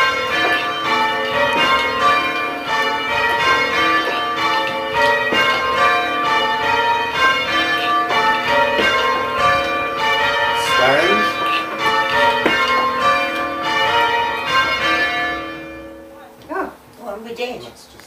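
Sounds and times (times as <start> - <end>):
church bells ringing: 0.0 - 16.4.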